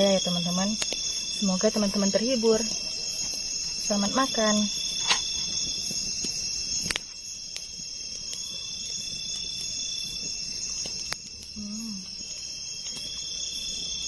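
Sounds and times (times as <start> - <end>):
crickets shrilling: 0.0 - 14.0.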